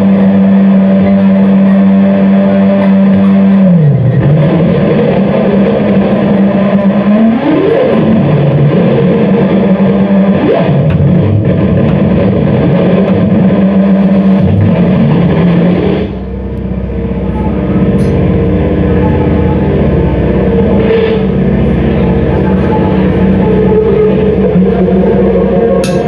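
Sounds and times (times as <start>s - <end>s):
low rumble: 0.0s - 26.0s
noisy experimental drone: 0.0s - 26.0s.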